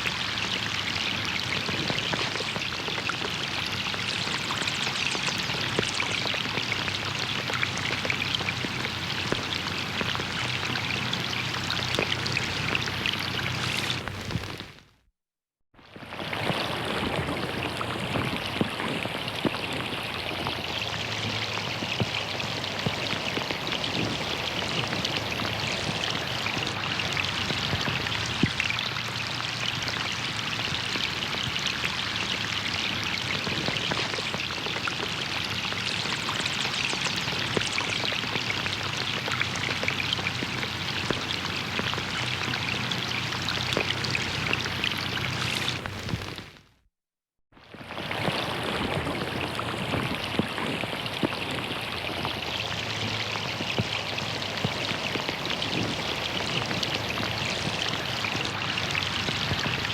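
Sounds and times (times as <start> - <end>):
rain falling on a pond: 0.0 - 14.9, 15.8 - 46.7, 47.6 - 59.9.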